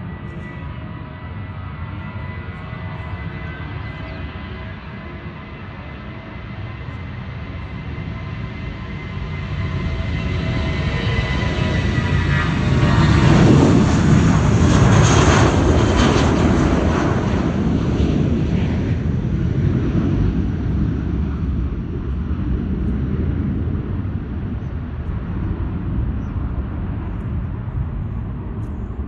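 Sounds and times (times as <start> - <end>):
airliner taking off: 0.0 - 29.0.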